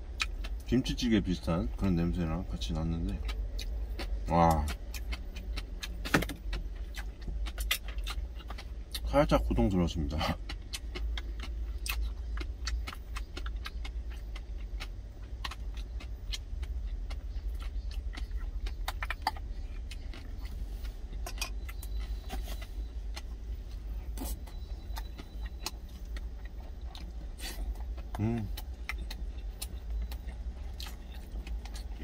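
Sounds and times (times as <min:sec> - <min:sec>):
low cab rumble: 0:00.0 - 0:32.0.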